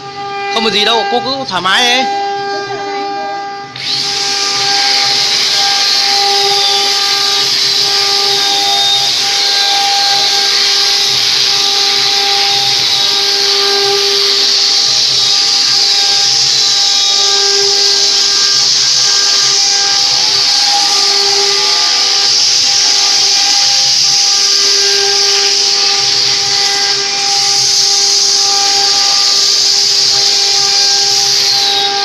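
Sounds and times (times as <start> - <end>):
saw cutting through wood: 0.0 - 32.0.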